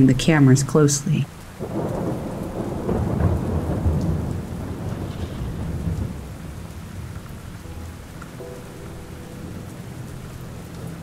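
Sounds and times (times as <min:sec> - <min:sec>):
steady rain: 0:00.0 - 0:11.0
thunder rumbling: 0:01.6 - 0:11.0.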